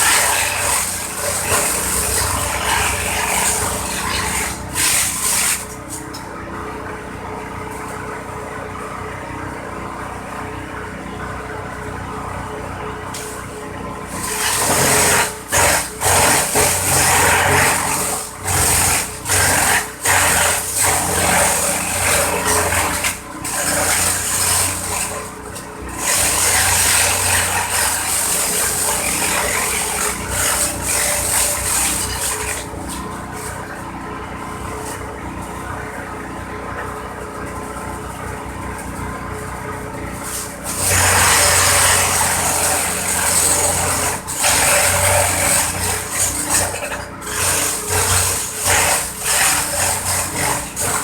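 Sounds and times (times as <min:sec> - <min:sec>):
stalks being shredded: 0:00.0 - 0:06.3, 0:13.1 - 0:51.0
chopper engine running: 0:00.0 - 0:51.0.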